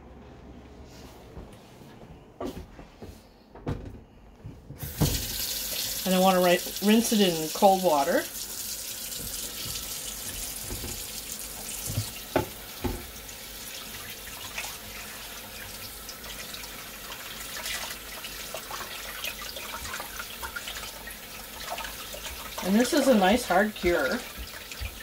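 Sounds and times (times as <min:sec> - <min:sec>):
faucet water splashing: 0:04.8 - 0:25.0.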